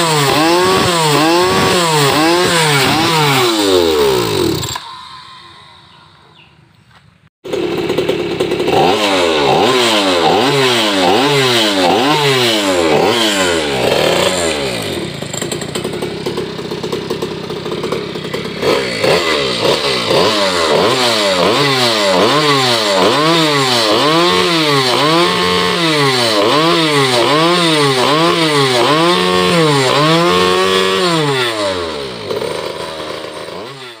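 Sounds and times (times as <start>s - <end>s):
two-stroke scooter engine revving: 0.0s - 6.5s, 7.4s - 34.0s.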